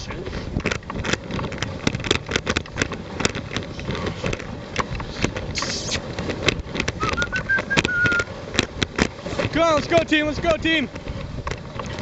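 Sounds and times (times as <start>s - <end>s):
rumble of rig over snow: 0.0s - 12.0s
clicks and rattles: 0.5s - 12.0s.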